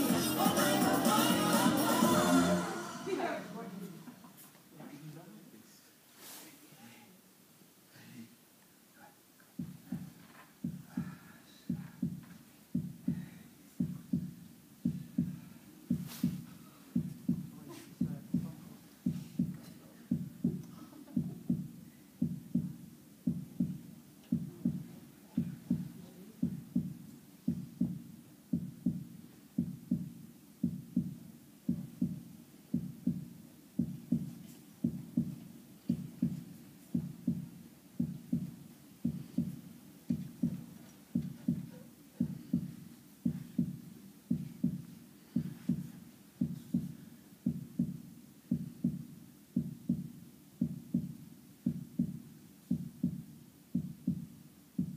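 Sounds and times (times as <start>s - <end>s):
heartbeat thumps: 9.6s - 54.9s.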